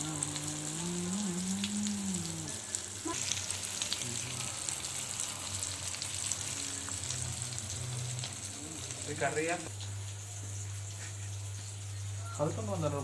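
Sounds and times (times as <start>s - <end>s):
low wavering hum: 0.0s - 12.2s
fish frying in hot oil: 0.0s - 13.0s.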